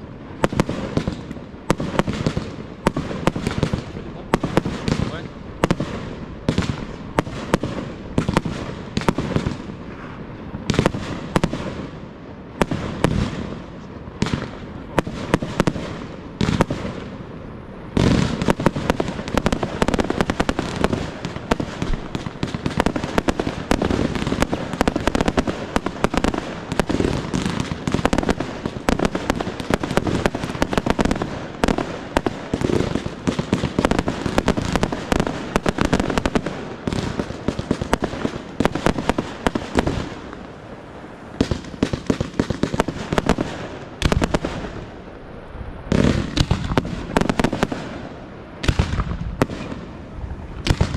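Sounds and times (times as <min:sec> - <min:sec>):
fireworks bangs: 0:00.0 - 0:50.9
rapid fireworks barrage: 0:00.0 - 0:50.9.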